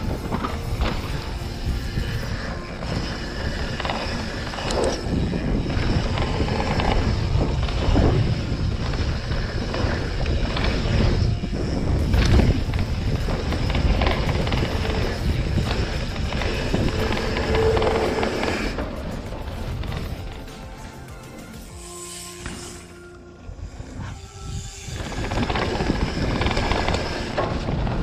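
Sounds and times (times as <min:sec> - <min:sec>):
wind rushing on microphone: 0:00.0 - 0:20.5, 0:23.5 - 0:28.0
bike rattling and knocking: 0:00.0 - 0:21.6, 0:25.0 - 0:28.0
tyres on loose dirt: 0:00.0 - 0:21.8, 0:24.0 - 0:28.0.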